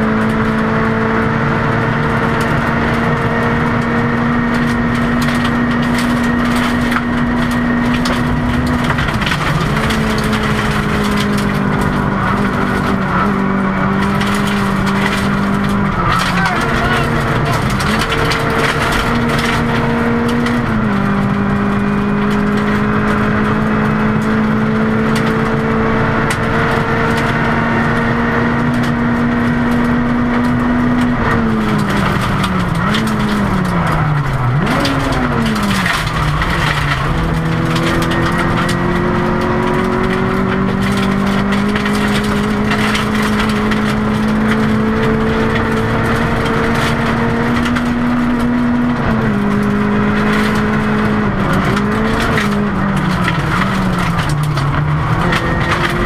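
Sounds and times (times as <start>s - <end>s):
gravel rattling under car: 0.0s - 56.0s
rally car engine revving: 0.0s - 56.0s.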